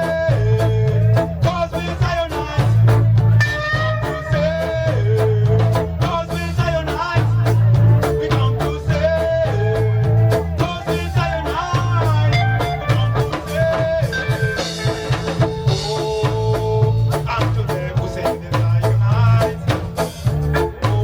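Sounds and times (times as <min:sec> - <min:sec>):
drum kit steady beat: 0:00.0 - 0:21.0
guitar: 0:00.0 - 0:21.0
heavy bass line: 0:00.0 - 0:21.0.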